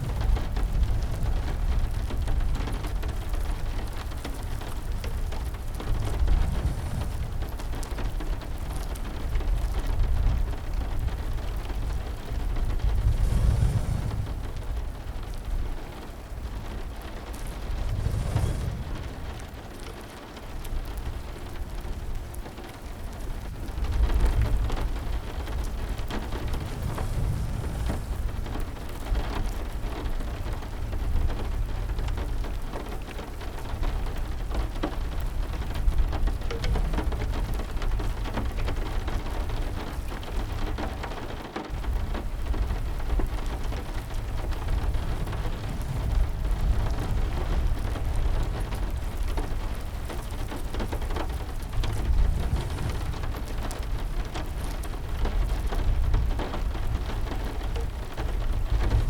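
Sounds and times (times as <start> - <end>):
thunder rumbling: 0.0 - 41.1, 41.7 - 59.0
heavy rain pattering: 0.0 - 59.0.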